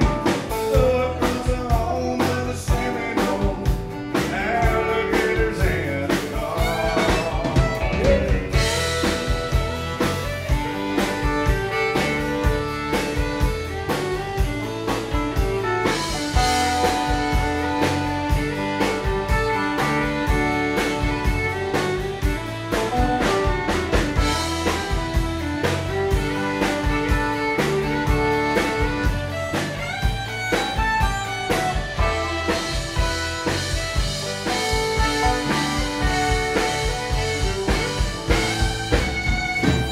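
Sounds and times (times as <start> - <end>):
live country band playing: 0.0 - 39.9.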